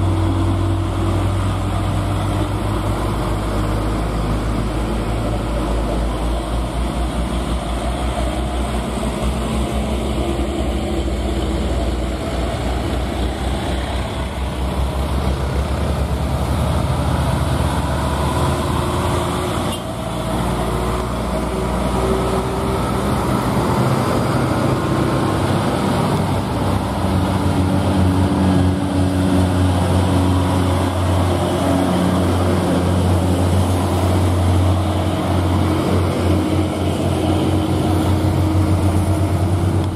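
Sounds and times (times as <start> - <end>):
diesel trucks driving past: 0.0 - 39.9.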